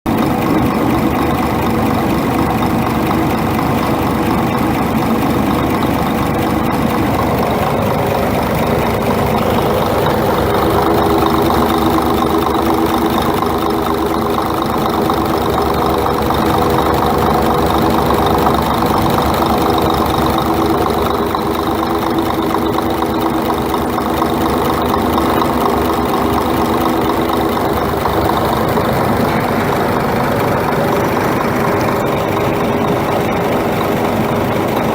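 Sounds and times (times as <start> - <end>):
diesel truck engine knocking idle: 0.0 - 34.9.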